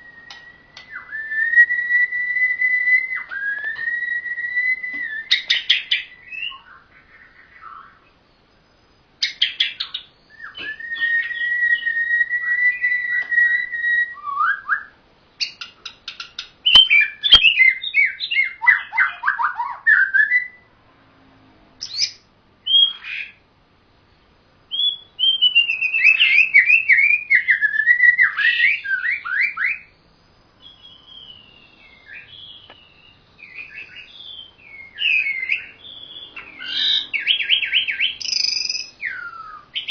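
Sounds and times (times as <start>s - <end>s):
songbird singing: 0.0s - 20.8s, 21.8s - 39.9s.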